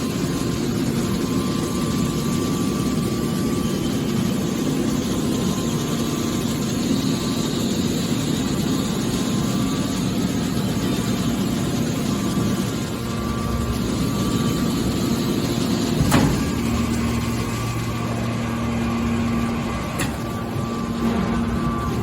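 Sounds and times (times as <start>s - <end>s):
baler hydraulic drone and hum: 0.0s - 22.0s.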